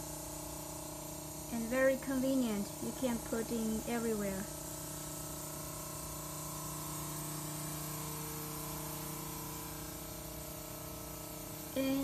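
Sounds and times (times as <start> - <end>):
motor hum: 0.0 - 12.0
spray gun hissing mist: 0.6 - 12.0.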